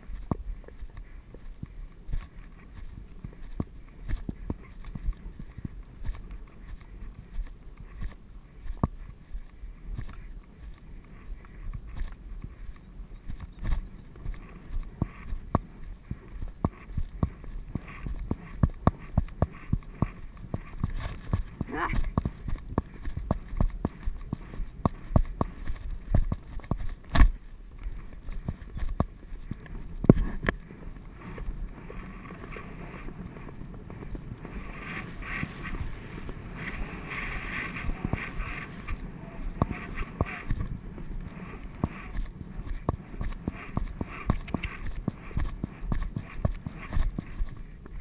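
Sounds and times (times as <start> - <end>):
horse hoofbeats on turf: 0.0 - 48.0
wind on microphone: 0.0 - 48.0.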